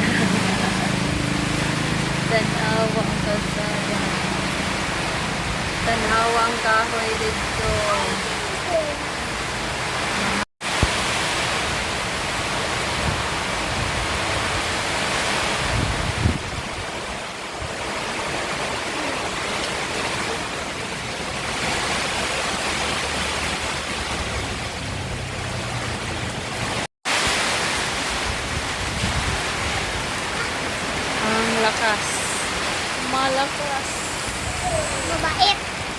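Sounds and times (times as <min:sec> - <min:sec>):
wind rumbling on microphone: 0:00.0 - 0:31.2, 0:33.6 - 0:35.9
heavy rain: 0:00.0 - 0:35.9
strong wind: 0:00.0 - 0:35.9.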